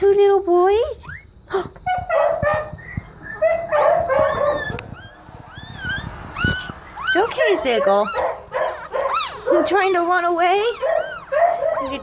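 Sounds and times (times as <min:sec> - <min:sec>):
puppies squealing and whimpering: 0:00.9 - 0:12.0.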